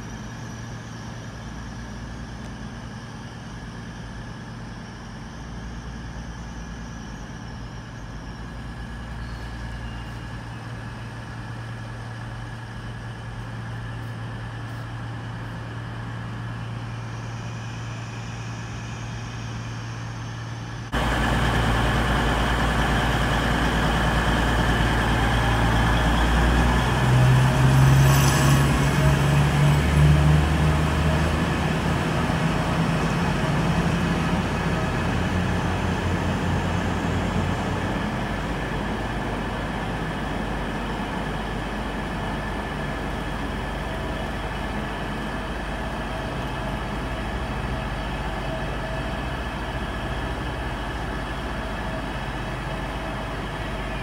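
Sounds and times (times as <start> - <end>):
train diesel engines: 0.0 - 54.0.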